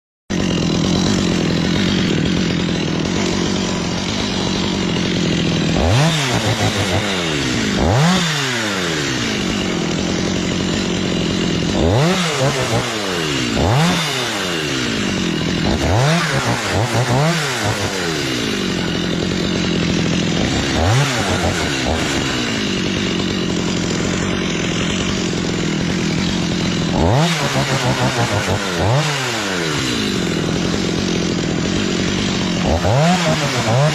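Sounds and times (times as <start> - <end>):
chainsaw revving: 0.3 - 33.9.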